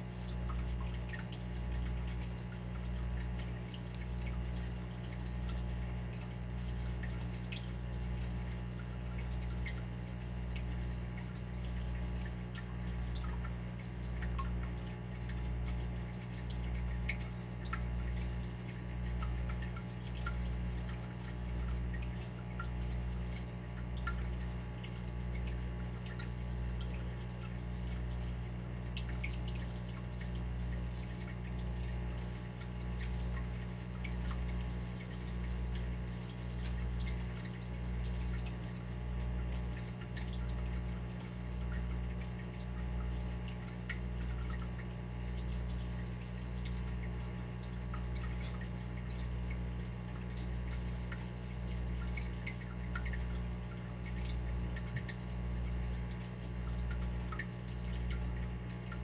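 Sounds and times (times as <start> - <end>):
water dripping and trickling: 0.0 - 59.0.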